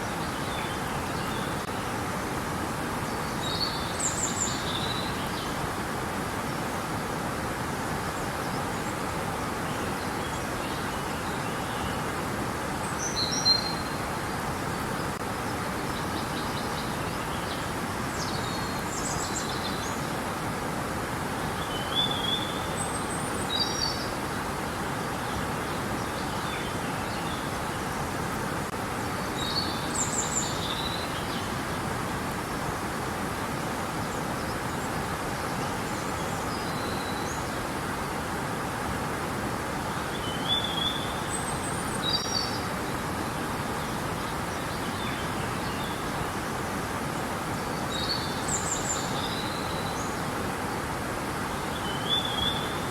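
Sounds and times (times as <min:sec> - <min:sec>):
river water flowing: 0:00.0 - 0:52.9.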